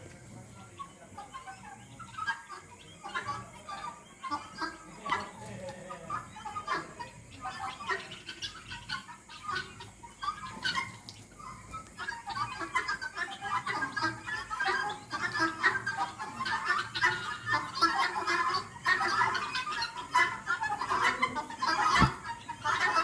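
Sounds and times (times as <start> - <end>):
chickens clucking and chirping: 0.0 - 23.0.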